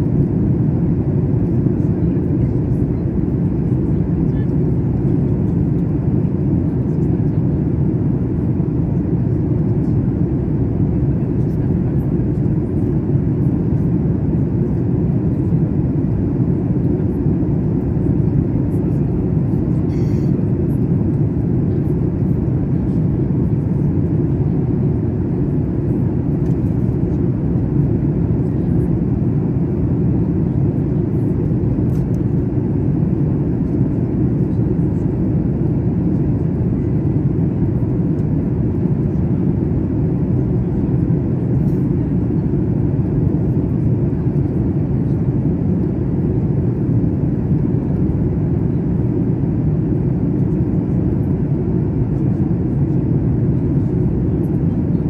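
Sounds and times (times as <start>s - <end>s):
jet cabin engine rumble: 0.0s - 55.0s.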